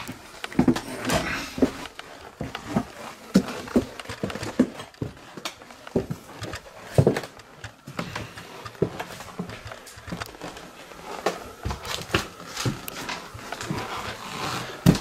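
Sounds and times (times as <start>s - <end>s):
footsteps on wooden stairs: 0.0s - 15.0s.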